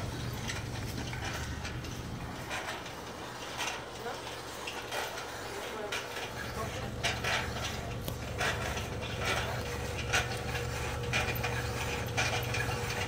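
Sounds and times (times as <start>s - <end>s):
drive chain clattering: 0.0s - 13.0s.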